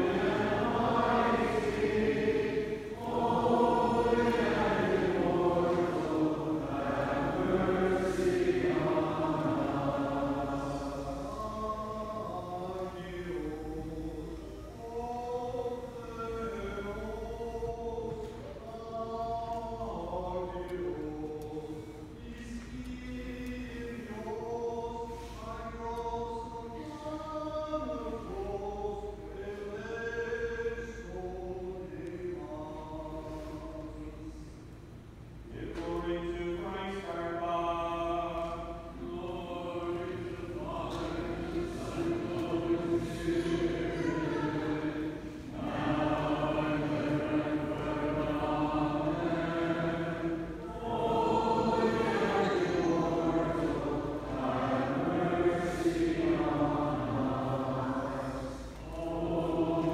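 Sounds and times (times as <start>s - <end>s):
unaccompanied voices chanting: 0.0s - 34.6s, 35.5s - 59.9s.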